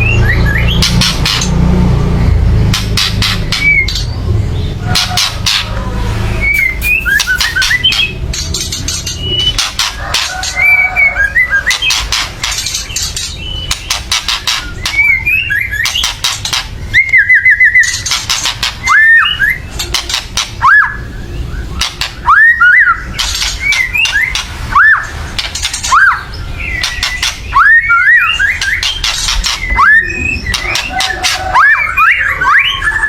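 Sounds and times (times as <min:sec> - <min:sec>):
bird rattling calls and whistles: 0:00.0 - 0:01.7, 0:02.6 - 0:04.2, 0:04.8 - 0:05.8, 0:06.4 - 0:33.0.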